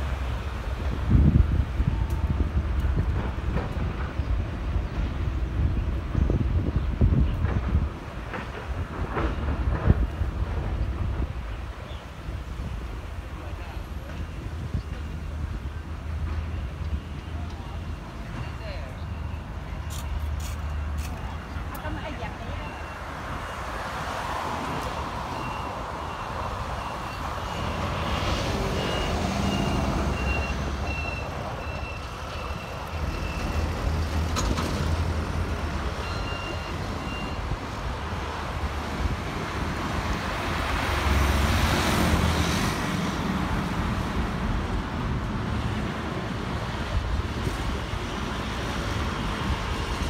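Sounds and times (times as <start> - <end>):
vehicles passing with low rumble: 0.0 - 50.0.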